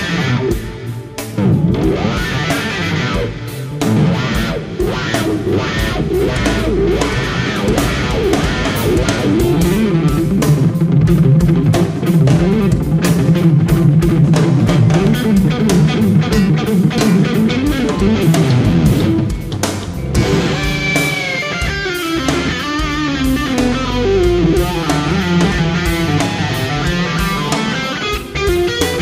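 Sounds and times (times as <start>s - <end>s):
bass guitar: 0.0s - 29.0s
steady drum beat: 0.0s - 29.0s
electric guitar fast runs: 1.4s - 29.0s.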